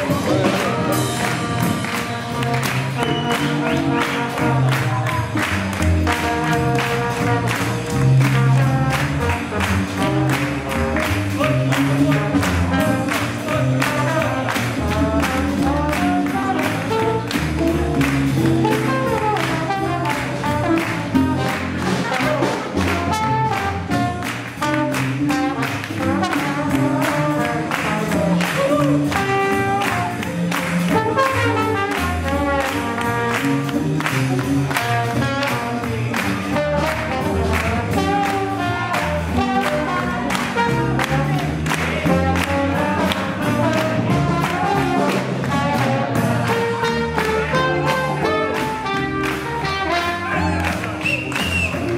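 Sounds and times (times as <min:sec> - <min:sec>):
swing jazz band playing: 0:00.0 - 0:51.9.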